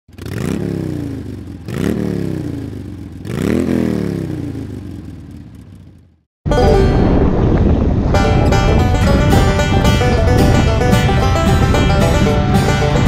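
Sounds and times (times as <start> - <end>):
motorcycle engine revving: 0.1 - 6.3, 8.2 - 13.0.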